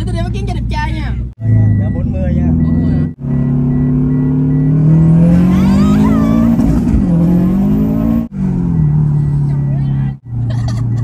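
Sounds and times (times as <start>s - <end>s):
sports car engine accelerating: 1.4s - 10.4s.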